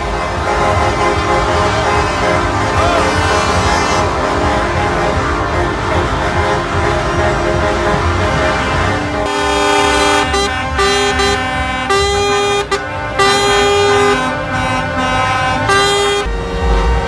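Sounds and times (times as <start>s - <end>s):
truck air horns playing a tune: 0.0s - 17.0s.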